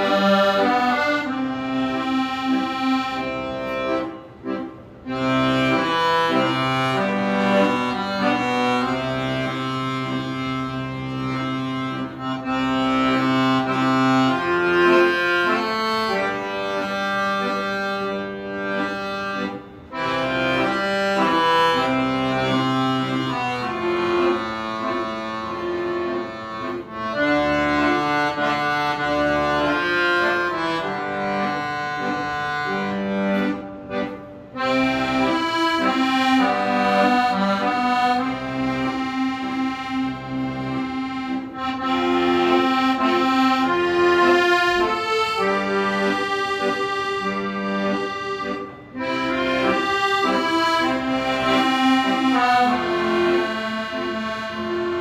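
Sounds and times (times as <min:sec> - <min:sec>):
accordion playing melody: 0:00.0 - 0:55.0.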